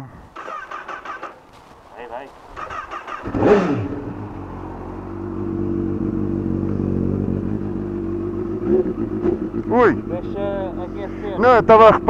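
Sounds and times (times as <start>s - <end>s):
motorcycle engine idling: 0.3s - 1.7s, 2.6s - 12.0s.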